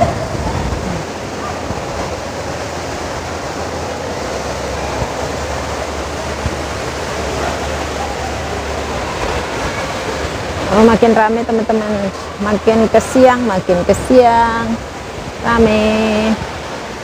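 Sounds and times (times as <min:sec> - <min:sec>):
indoor waterfall rushing: 0:00.0 - 0:17.0.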